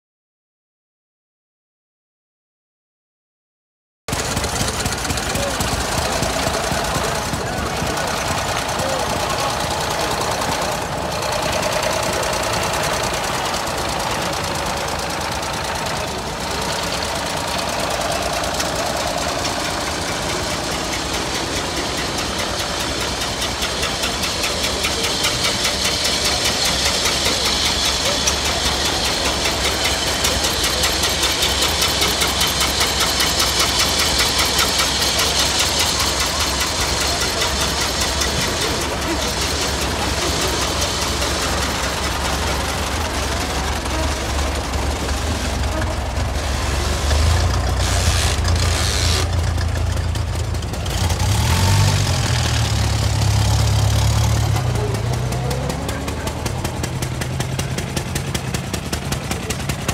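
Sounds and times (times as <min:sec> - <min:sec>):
old car engines idling: 0:04.1 - 0:59.9.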